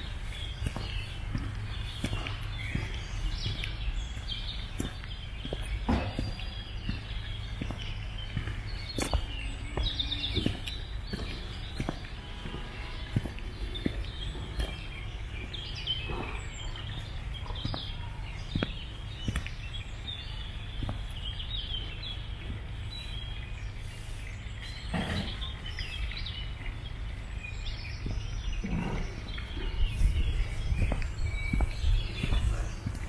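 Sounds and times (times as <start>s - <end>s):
small birds chirping and singing: 0.0s - 33.0s
steady low rumble: 0.0s - 33.0s.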